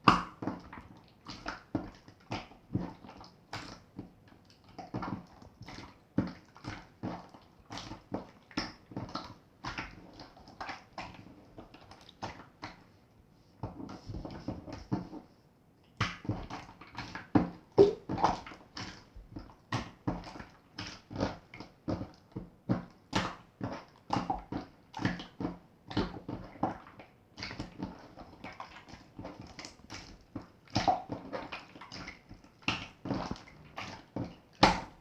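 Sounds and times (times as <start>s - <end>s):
slime squelching: 0.1s - 12.9s, 16.0s - 35.0s.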